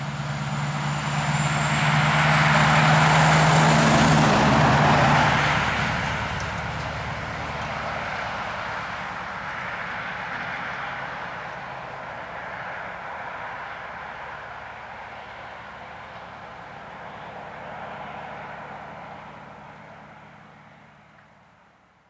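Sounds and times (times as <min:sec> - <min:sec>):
truck diesel engine pulling away: 0:00.0 - 0:21.2.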